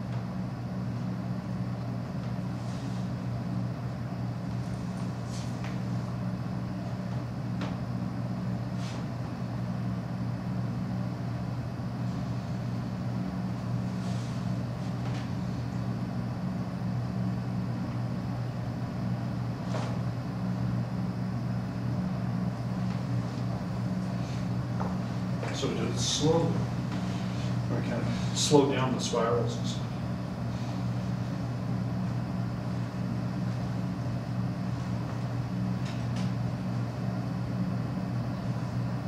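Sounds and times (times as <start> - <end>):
faint high whine: 0.0 - 39.0
low room hum: 0.0 - 39.0.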